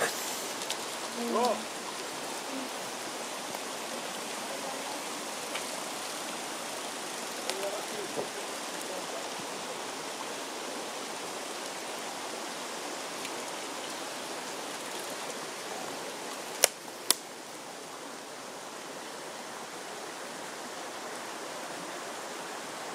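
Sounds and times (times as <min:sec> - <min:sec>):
stream running over stones: 0:00.0 - 0:22.9.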